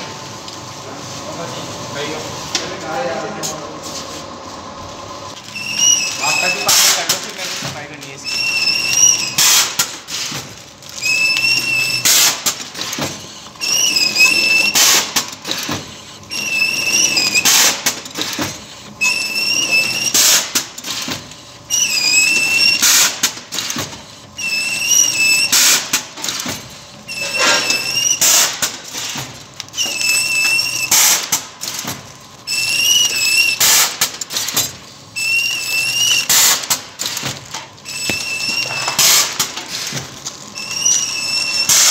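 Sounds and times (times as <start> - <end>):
packing machine wavering whine: 0.0 - 41.9.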